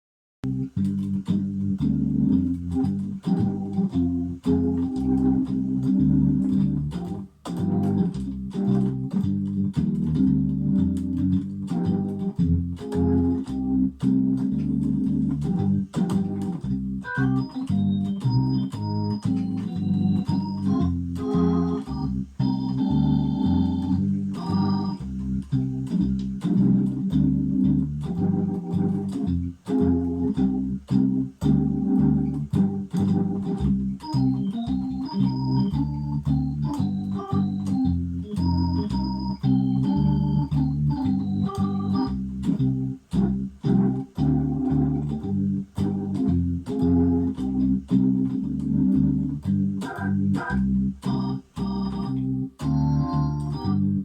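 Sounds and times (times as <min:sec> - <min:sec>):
drawbar organ chords: 0:00.4 - 0:54.0.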